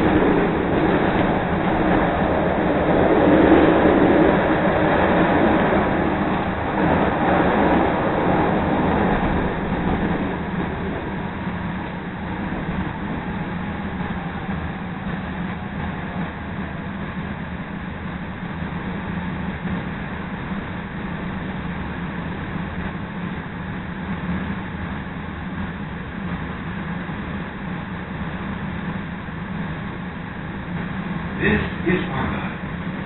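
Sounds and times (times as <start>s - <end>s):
train wheels and motors rumbling: 0.0s - 33.0s.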